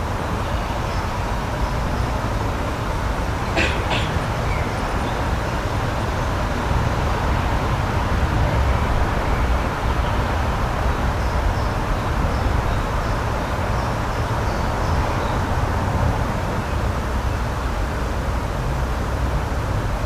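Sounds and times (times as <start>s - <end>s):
rushing outdoor noise: 0.0s - 20.0s.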